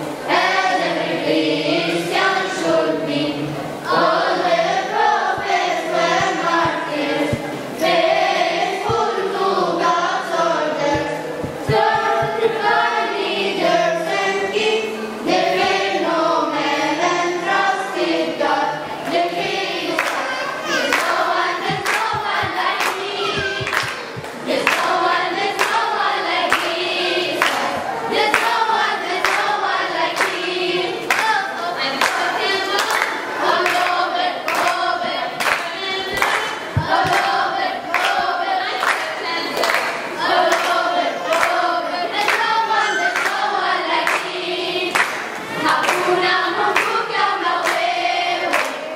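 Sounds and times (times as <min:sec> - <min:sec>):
children's choir singing: 0:00.0 - 0:48.9
rhythmic clapping: 0:03.9 - 0:14.4, 0:19.0 - 0:48.9.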